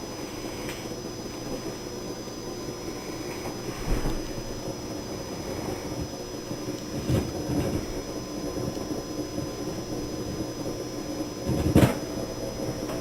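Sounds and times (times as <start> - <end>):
high-pitched electrical whines: 0.0 - 13.0
low buzzing hum and hiss: 0.0 - 13.0.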